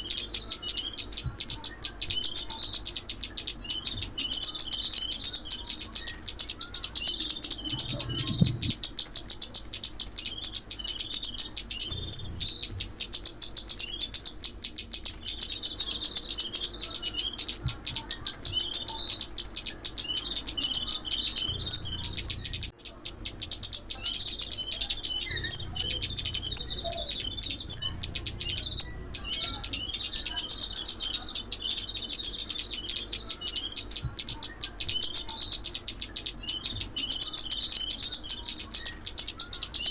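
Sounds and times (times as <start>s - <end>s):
sunbird twittering song: 0.0s - 39.9s
thin steady high tone: 0.0s - 39.9s.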